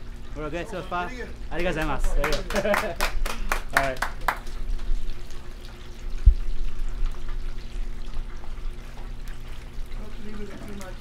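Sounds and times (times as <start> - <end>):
deep-frying sizzle in oil: 0.0 - 2.0, 3.8 - 11.0.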